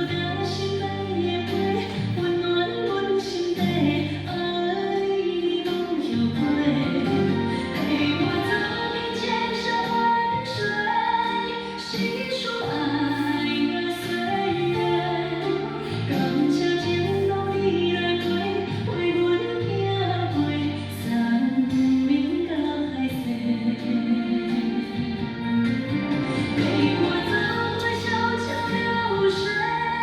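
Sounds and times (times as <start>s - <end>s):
instrumental backing music: 0.0s - 30.0s
woman singing: 0.0s - 30.0s.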